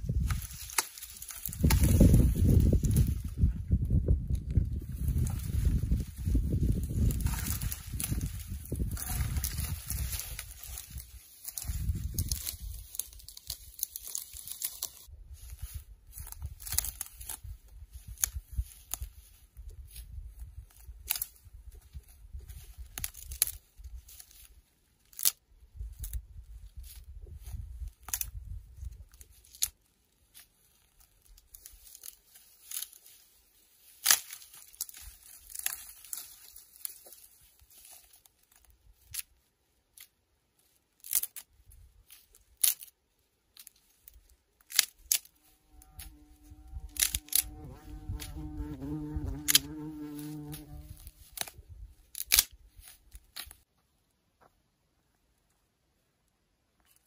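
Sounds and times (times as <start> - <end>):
dry twigs snapping: 0.0 - 3.5, 4.2 - 15.1, 16.1 - 19.3, 20.6 - 26.2, 26.8 - 33.2, 33.8 - 53.7
twigs rustling: 0.0 - 54.1.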